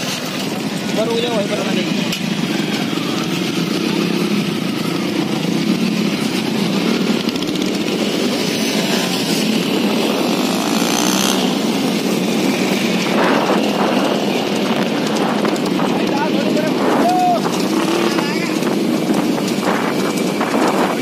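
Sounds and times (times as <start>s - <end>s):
continuous rushing noise: 0.0s - 21.0s
motorcycle engine running: 0.0s - 21.0s.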